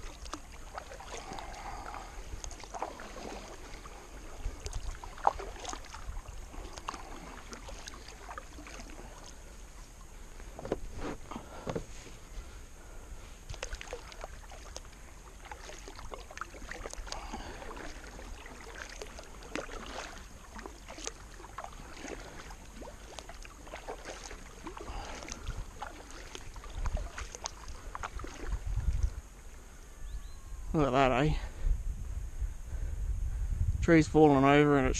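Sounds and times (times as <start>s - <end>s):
kayak paddle strokes in water: 0.0s - 29.8s.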